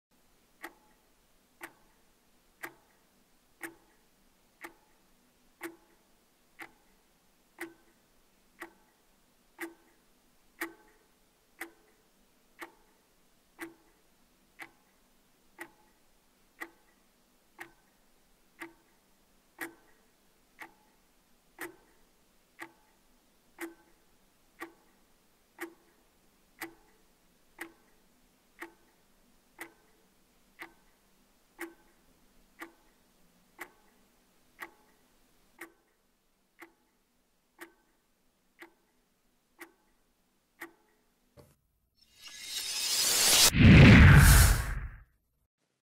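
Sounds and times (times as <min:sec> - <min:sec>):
wall clock ticking: 0:00.2 - 0:41.3.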